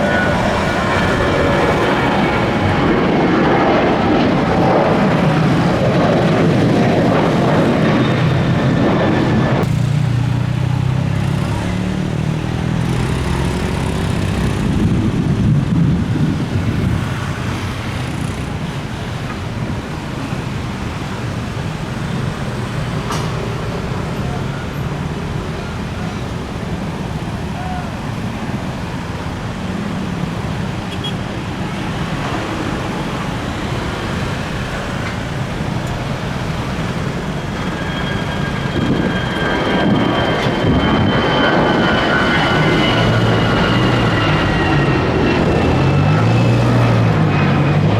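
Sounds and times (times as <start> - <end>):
high engine whine: 0.0 - 47.9
jet airliner taking off: 0.0 - 47.9.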